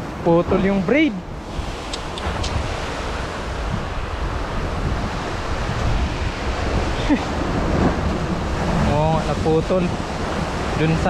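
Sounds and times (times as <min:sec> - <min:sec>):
wind noise on microphone: 0:00.0 - 0:11.0
waves breaking on rocky shore: 0:00.2 - 0:11.0.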